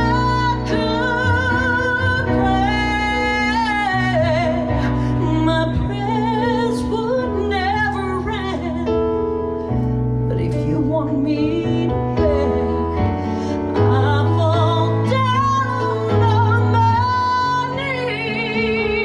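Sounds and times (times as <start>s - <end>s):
woman singing with vibrato: 0.0s - 9.0s, 10.3s - 19.0s.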